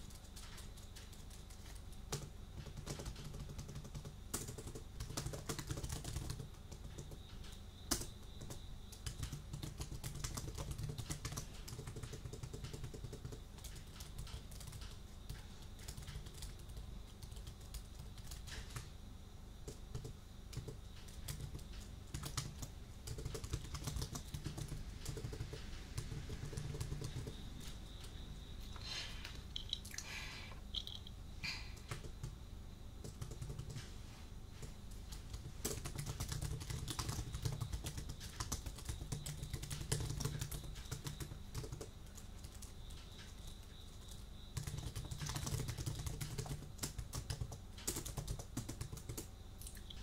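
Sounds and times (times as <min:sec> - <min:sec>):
keyboard typing: 0:00.0 - 0:18.9, 0:19.6 - 0:30.0, 0:30.6 - 0:32.4, 0:33.0 - 0:50.0.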